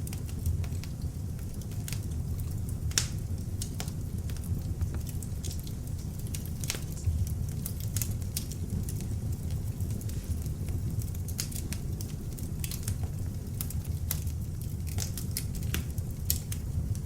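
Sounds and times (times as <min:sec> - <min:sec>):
logs burning with crackles: 0:00.0 - 0:17.0.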